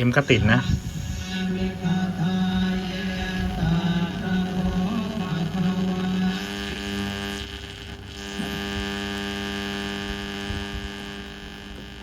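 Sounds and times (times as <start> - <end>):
radio tuner electrical hum: 0.0 - 12.0.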